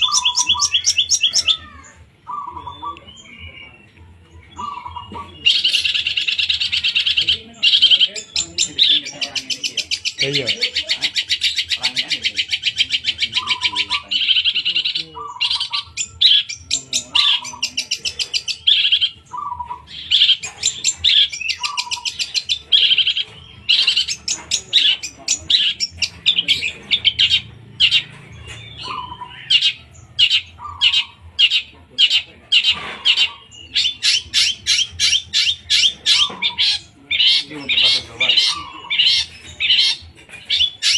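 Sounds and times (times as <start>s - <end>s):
shrike chattering song: 0.0s - 40.9s.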